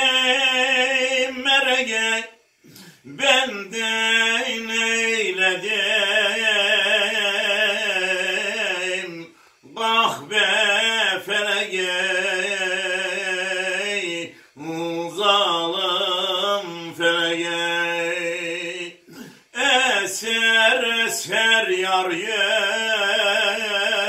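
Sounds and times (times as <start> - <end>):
man singing unaccompanied folk song: 0.0 - 24.0.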